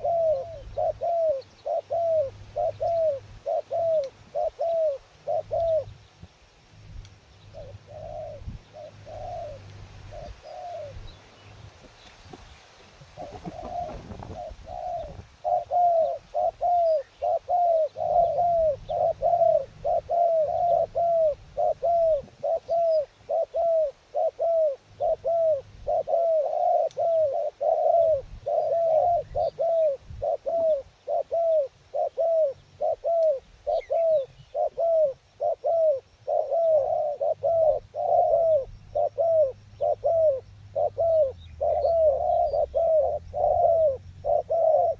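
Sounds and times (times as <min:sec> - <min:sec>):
dove cooing: 0:00.0 - 0:06.0, 0:07.5 - 0:11.2, 0:13.1 - 0:44.9.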